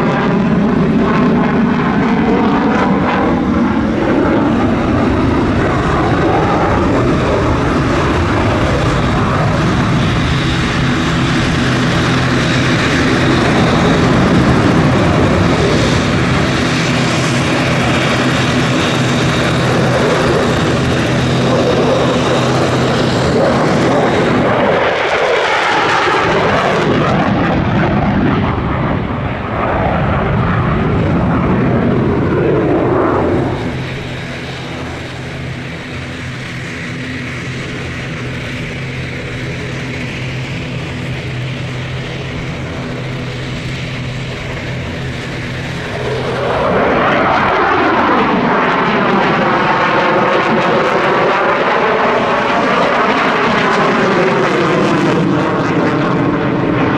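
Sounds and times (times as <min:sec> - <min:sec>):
fighter jet engine roar: 0:00.0 - 0:56.9.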